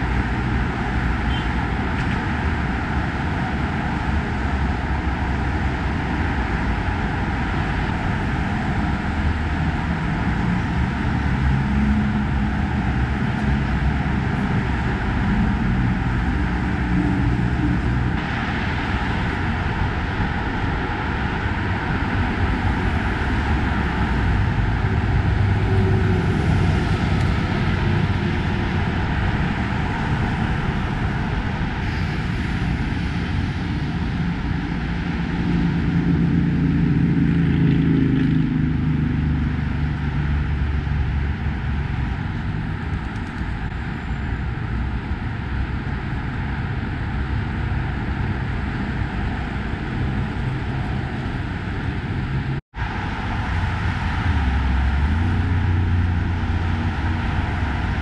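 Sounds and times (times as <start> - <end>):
heavy traffic: 0.0 - 58.0.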